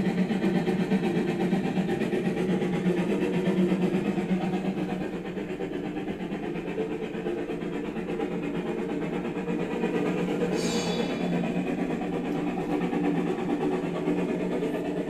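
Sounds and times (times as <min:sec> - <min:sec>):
low mechanical running hum: 0:00.0 - 0:15.0.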